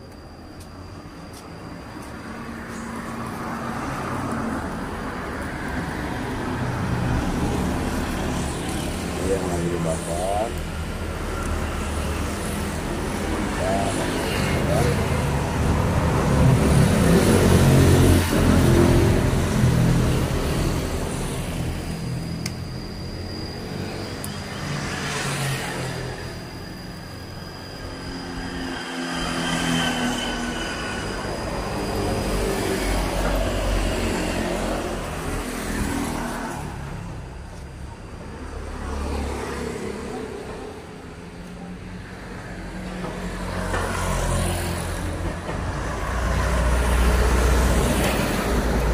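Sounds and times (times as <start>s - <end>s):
vehicles passing: 0.0s - 48.9s.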